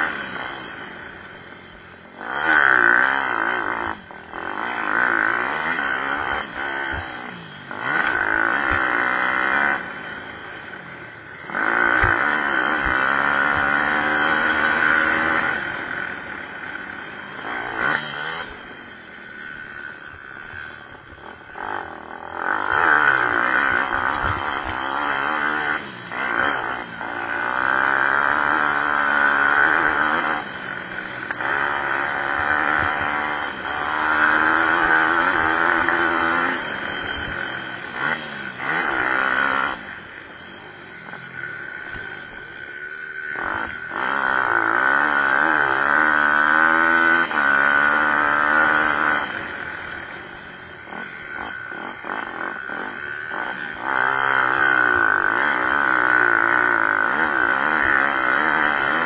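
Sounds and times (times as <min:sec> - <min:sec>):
pit bike engines revving: 0:00.0 - 0:59.0.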